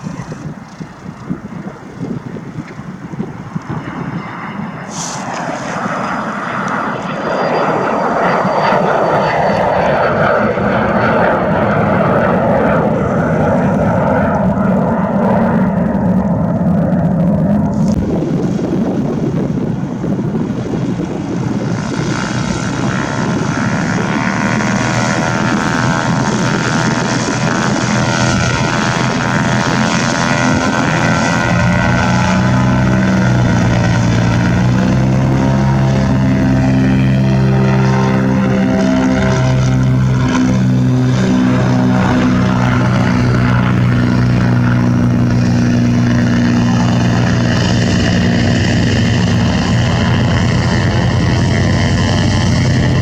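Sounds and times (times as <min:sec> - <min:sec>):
propeller aircraft engine drone: 0:00.0 - 0:53.0.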